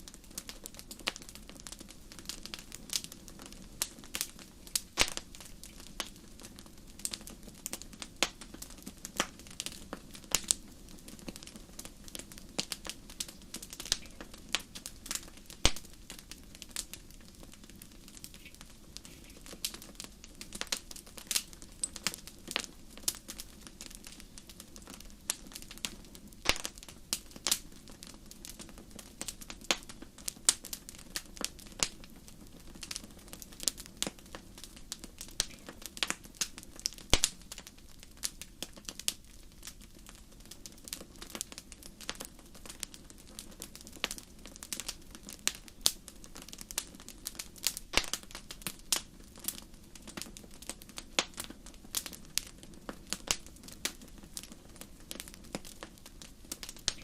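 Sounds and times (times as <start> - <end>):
low fire burning: 0.0 - 57.0
wood fire popping and snapping: 0.0 - 57.0.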